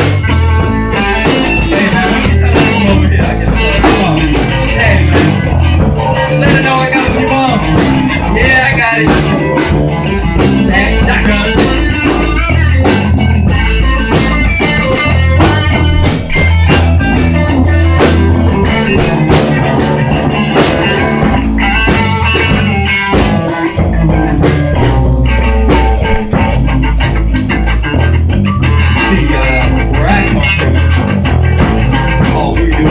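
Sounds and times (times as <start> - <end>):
bass guitar: 0.0 - 32.9
drum kit: 0.0 - 32.9
lead guitar: 0.0 - 32.9.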